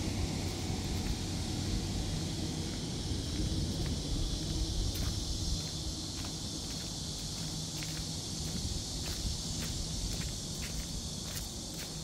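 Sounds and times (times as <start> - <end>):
distant traffic rumble: 0.0 - 12.0
faint footsteps on paving: 0.4 - 12.0.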